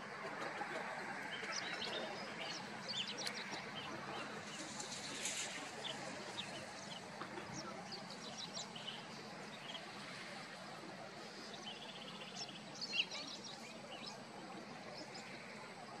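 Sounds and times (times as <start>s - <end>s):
wetland background noise: 0.0s - 16.0s.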